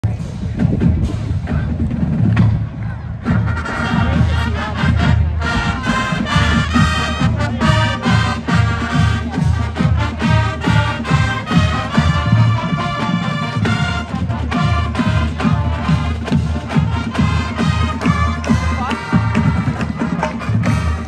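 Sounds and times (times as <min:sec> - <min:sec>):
steady drum beat: 0:00.0 - 0:21.0
brass playing: 0:03.3 - 0:21.0.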